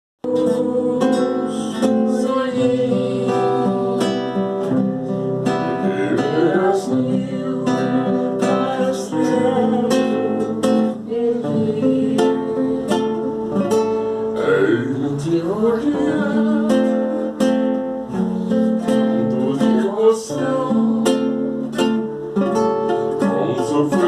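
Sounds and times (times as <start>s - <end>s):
acoustic guitar playing: 0.2s - 24.0s.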